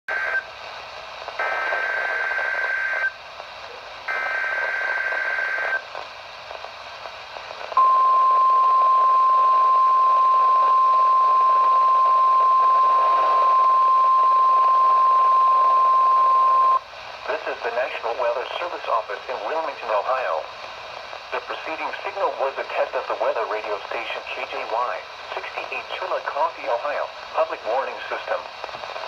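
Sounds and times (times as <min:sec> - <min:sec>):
radio hiss: 0:00.1 - 0:29.0.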